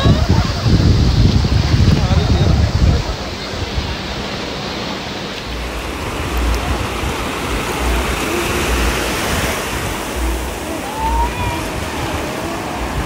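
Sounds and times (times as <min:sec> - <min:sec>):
low rumbles: 0:00.0 - 0:13.0
ocean surf breaking: 0:00.0 - 0:13.0.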